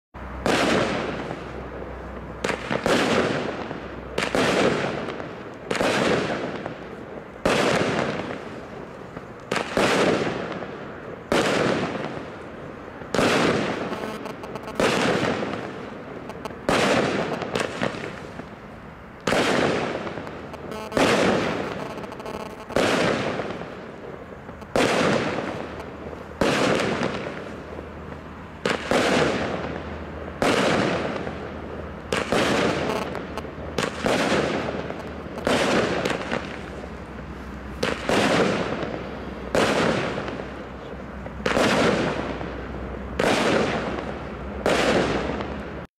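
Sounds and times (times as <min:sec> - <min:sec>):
firework bangs echoing: 0:00.3 - 0:45.9.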